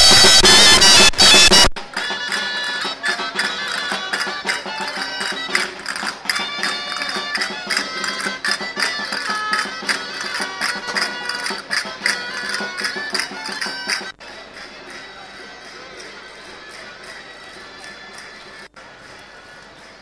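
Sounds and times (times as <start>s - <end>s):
loud folk piping: 0.0s - 20.0s
percussion beat: 0.0s - 20.0s
traditional folk music: 0.0s - 20.0s.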